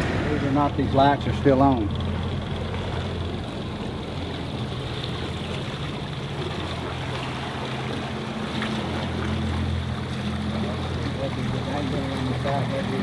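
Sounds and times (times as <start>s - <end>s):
low engine hum: 0.0s - 13.0s
water rushing along hull: 0.0s - 13.0s.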